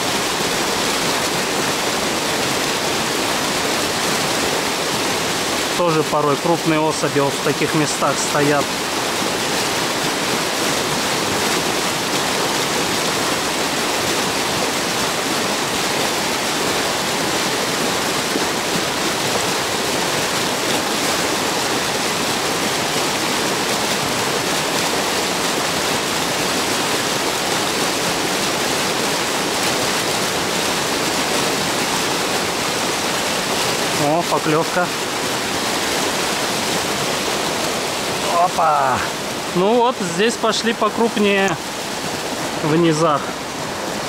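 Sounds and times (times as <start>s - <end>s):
river rushing: 0.0s - 44.0s.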